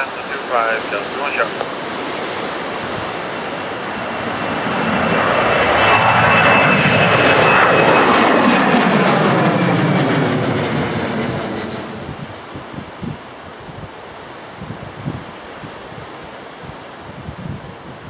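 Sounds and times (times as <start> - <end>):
airliner engines passing: 0.0 - 18.0.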